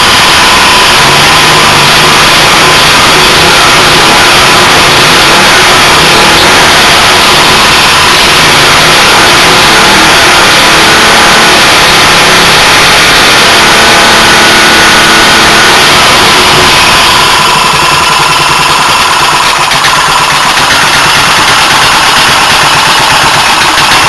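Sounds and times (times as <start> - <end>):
petrol engine running at high speed: 0.0 - 24.0.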